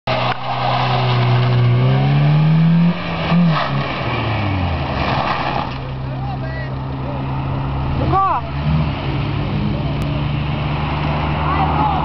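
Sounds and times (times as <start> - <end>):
car engine accelerating hard: 0.1 - 12.0.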